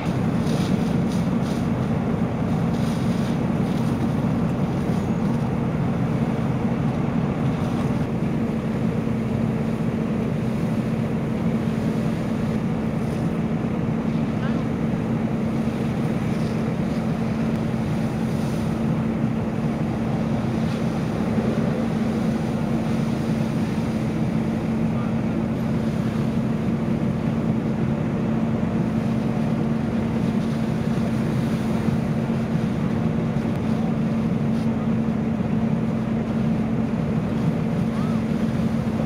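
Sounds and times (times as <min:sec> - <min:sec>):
fire engine pump droning: 0:00.0 - 0:39.0
water hissing from hoses: 0:00.0 - 0:39.0.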